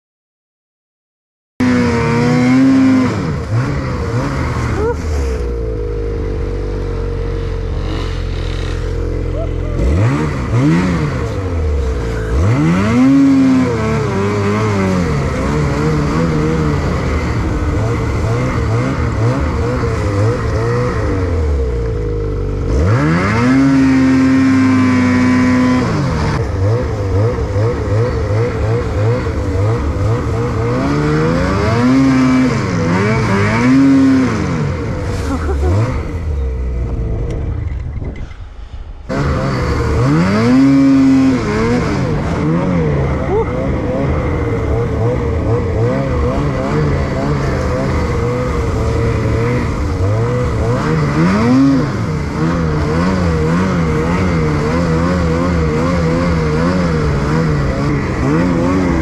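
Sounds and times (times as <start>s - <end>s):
snowmobile engine revving: 1.6s - 59.0s.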